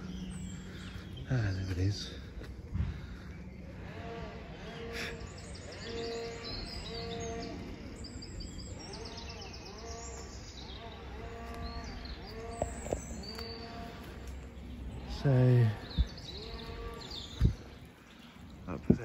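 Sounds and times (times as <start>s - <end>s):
birds chirping and singing: 0.0s - 19.0s
animals calling low: 0.7s - 19.0s.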